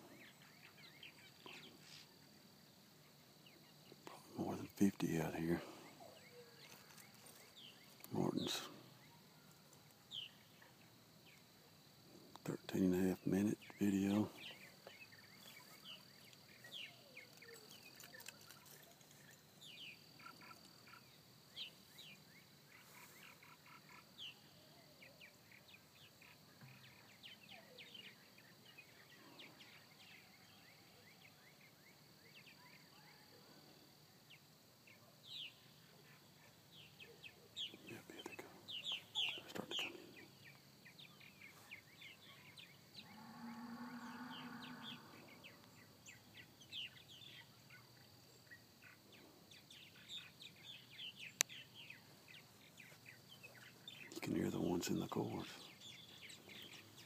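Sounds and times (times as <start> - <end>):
birds chirping overhead: 0.0 - 57.0.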